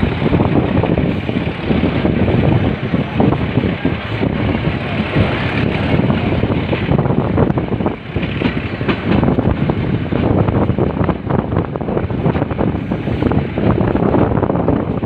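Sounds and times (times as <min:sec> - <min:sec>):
train carriage rumble: 0:00.0 - 0:15.0
wind rushing over microphone: 0:00.0 - 0:15.0.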